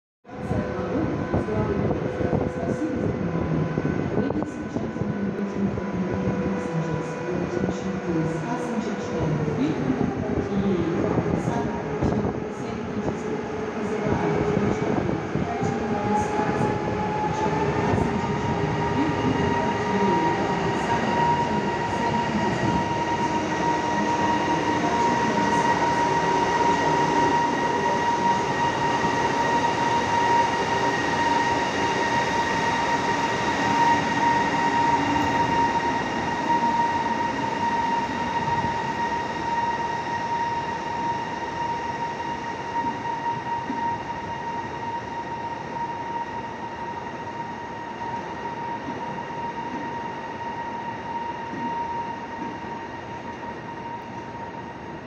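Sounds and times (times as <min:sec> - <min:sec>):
electric locomotive whine: 0:00.3 - 0:55.0.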